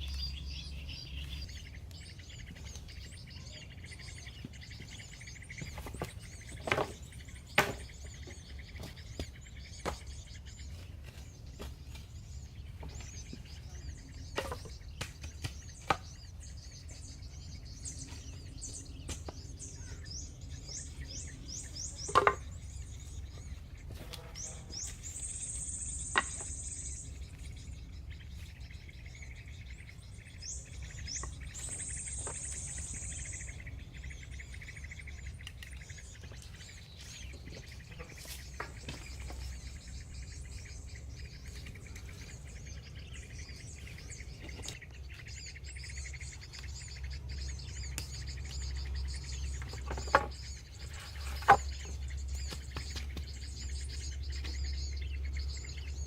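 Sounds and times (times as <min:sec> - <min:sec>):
birds singing: 0:00.0 - 0:56.0.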